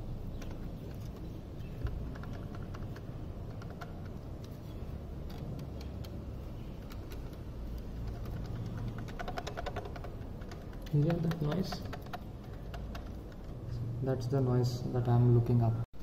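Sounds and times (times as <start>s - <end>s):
plastic clicks and rattles: 0.3s - 13.7s.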